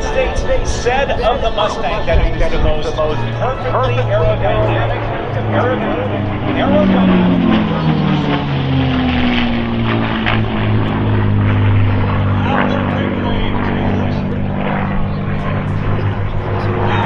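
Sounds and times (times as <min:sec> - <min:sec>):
propeller aircraft engines flying past: 0:00.0 - 0:17.0.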